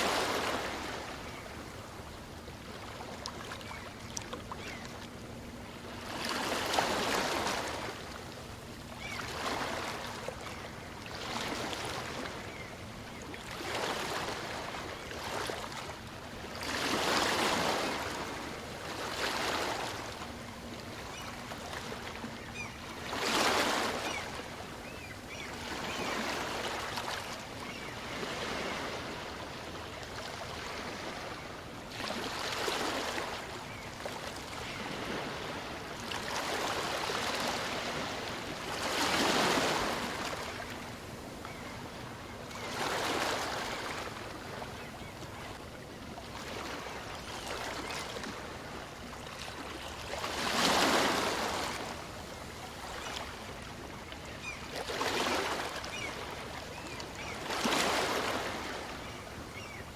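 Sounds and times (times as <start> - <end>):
small waves washing on shore: 0.0 - 12.6, 13.4 - 59.9.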